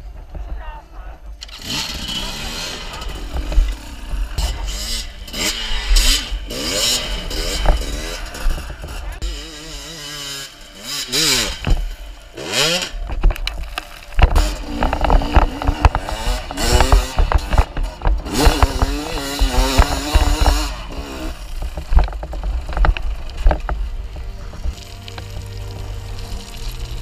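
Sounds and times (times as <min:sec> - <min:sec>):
knocks and clatter: 0:00.0 - 0:09.4, 0:12.8 - 0:26.0
motorcycle engines revving: 0:00.0 - 0:27.0.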